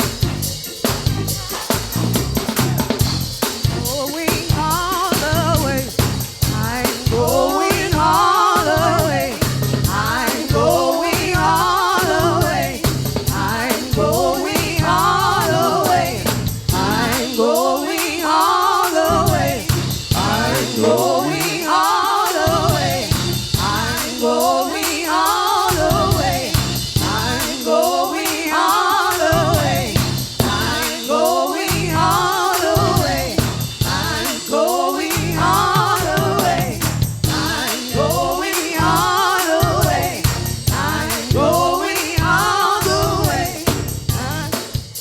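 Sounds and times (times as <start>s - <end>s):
bass: 0.0s - 17.3s, 19.0s - 21.5s, 22.4s - 24.1s, 25.7s - 27.6s, 29.2s - 30.9s, 31.7s - 34.4s, 35.0s - 44.9s
steady drum beat: 0.0s - 45.0s
voices singing gospel: 0.0s - 45.0s.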